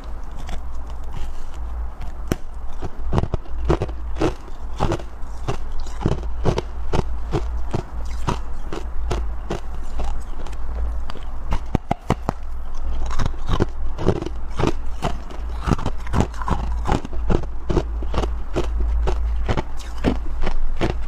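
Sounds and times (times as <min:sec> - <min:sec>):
ice being bitten and chewed: 0:00.0 - 0:21.0
low steady rumble: 0:00.0 - 0:21.0.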